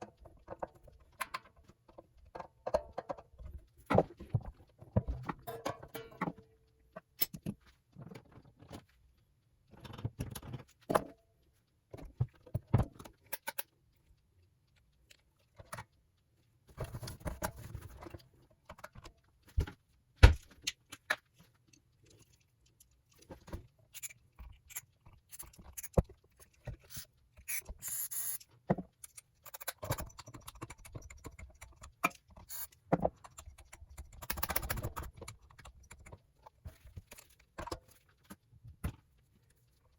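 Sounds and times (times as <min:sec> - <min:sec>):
small parts clicking and clattering: 0:00.0 - 0:39.9.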